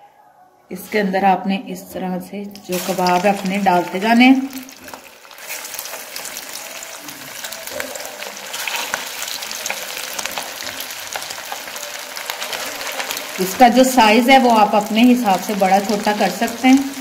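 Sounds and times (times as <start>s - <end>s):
food deep-frying in hot oil: 2.5s - 17.0s.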